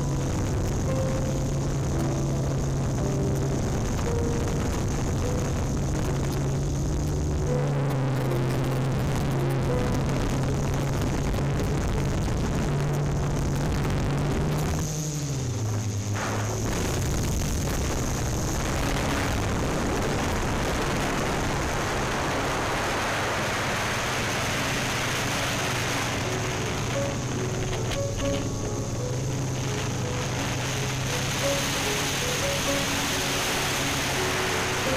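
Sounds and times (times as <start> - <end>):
drone propellers humming: 0.0 - 34.9.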